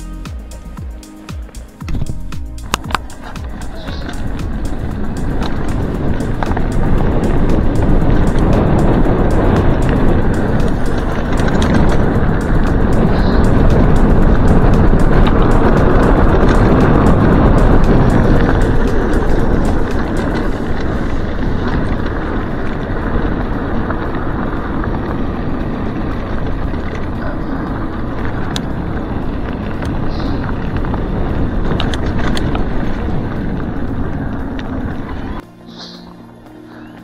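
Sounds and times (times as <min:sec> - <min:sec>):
bike clicks and rattles: 0:01.4 - 0:36.0
wind rushing over microphone: 0:01.5 - 0:37.0
tyres rolling on gravel: 0:02.4 - 0:37.0.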